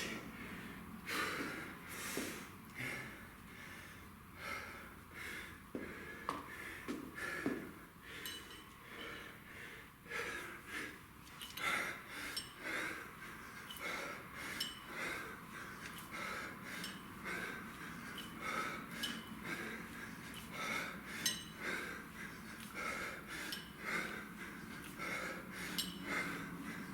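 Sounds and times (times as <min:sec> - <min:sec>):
man breathing hard: 0:00.0 - 0:26.9.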